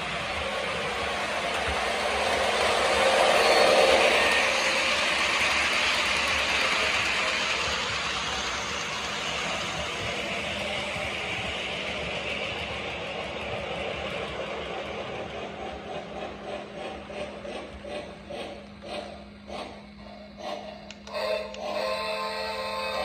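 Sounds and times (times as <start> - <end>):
toy train running on track: 0.0 - 23.0.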